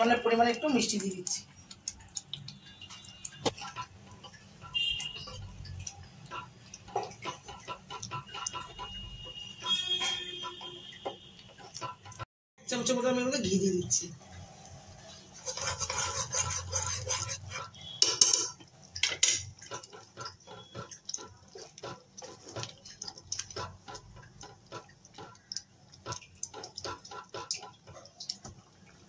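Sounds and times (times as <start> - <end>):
spatula squelching in thick dal: 0.7 - 12.2, 14.5 - 18.7, 19.5 - 29.0.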